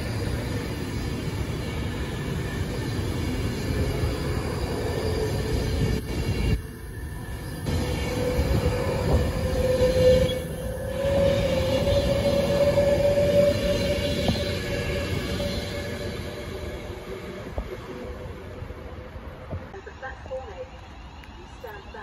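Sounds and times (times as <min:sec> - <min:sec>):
electric train whine: 0:00.0 - 0:22.0
train wheels rumbling on rail: 0:00.0 - 0:22.0.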